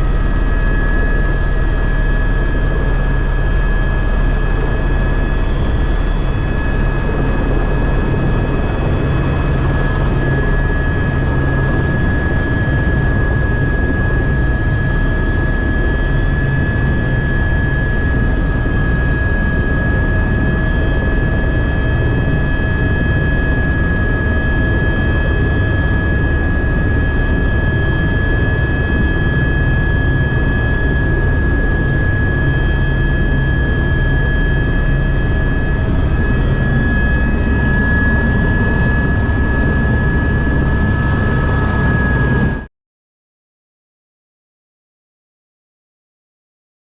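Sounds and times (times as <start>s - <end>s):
aircraft engine rumble: 0.0s - 42.7s
high-pitched engine whine: 0.0s - 42.7s.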